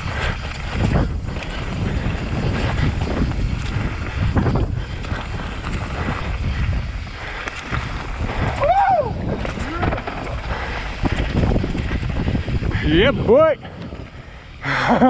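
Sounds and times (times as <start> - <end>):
bike knocks and rattles: 0.0 - 14.2
tyres rumbling on dirt: 0.0 - 15.0
wind buffeting microphone: 0.0 - 15.0.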